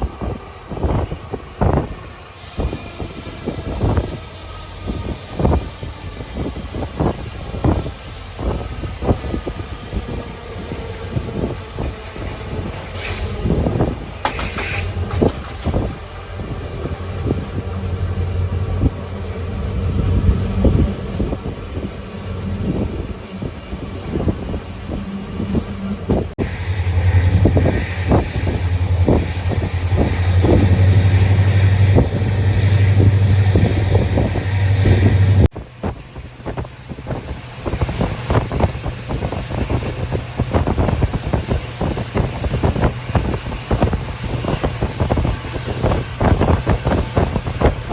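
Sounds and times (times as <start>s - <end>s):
train wheels clattering on rails: 0.0s - 23.0s, 25.4s - 47.9s
diesel locomotive engine hum: 0.0s - 47.9s.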